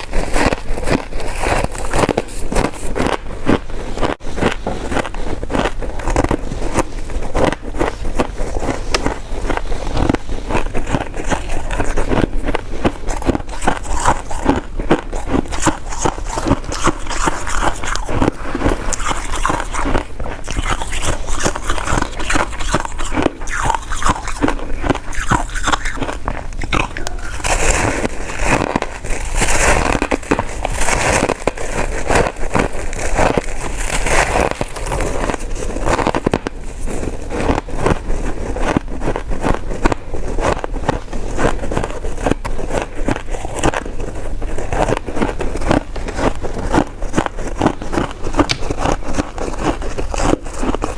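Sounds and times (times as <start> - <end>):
close-miked chewing: 0.0 - 50.9.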